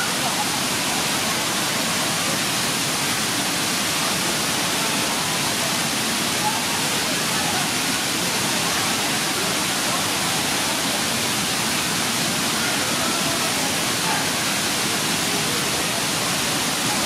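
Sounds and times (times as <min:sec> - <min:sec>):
faint distant voices: 0:00.0 - 0:17.0
waterfall and river rushing: 0:00.0 - 0:17.0.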